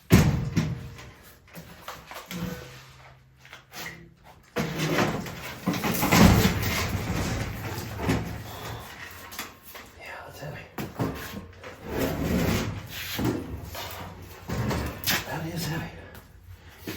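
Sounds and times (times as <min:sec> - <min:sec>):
metal scraping and clunking: 0:00.3 - 0:09.9, 0:10.9 - 0:15.8.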